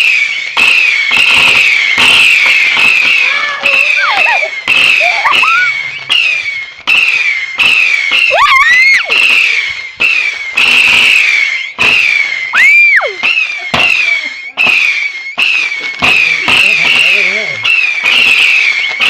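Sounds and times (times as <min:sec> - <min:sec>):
firework bangs: 0:00.0 - 0:19.0
firework crackling hiss: 0:00.0 - 0:19.0
high squeal: 0:00.0 - 0:19.0.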